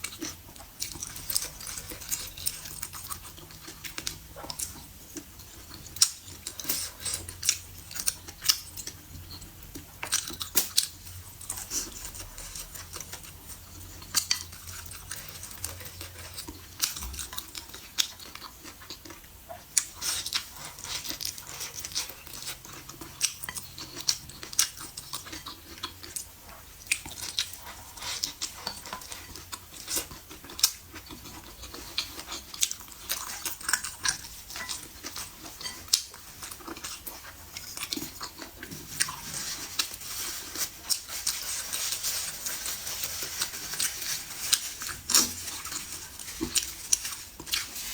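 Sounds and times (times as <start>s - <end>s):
wet chewing: 0.0s - 47.9s.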